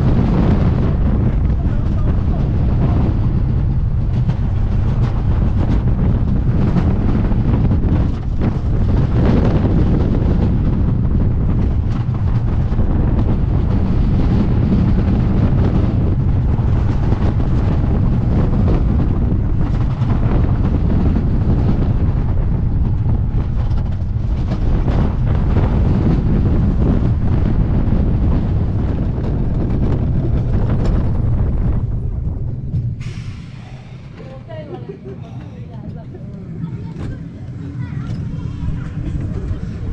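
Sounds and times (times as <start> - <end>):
roller coaster wheels rumbling: 0.0 - 39.9
wind rushing over microphone: 0.0 - 39.9.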